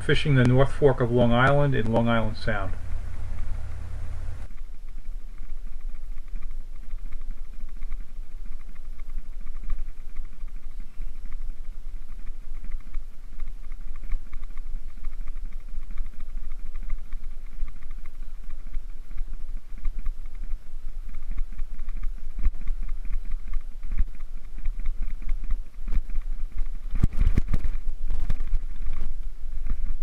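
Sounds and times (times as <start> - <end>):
fishing reel ticking: 0.0 - 30.0.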